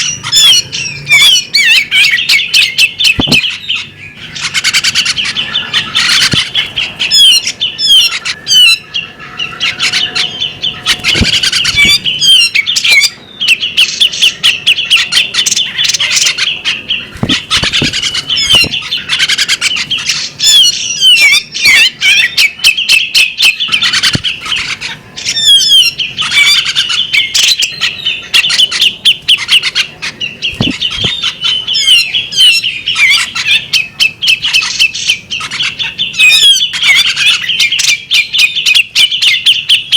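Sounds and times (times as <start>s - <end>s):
bird singing chattering whistles: 0.0s - 39.9s.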